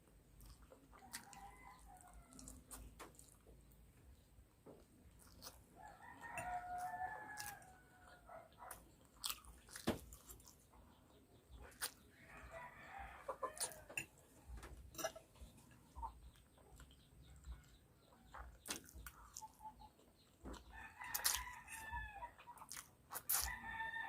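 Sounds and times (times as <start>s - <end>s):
chewing noodles: 0.4s - 3.8s, 4.8s - 12.2s, 13.5s - 23.6s.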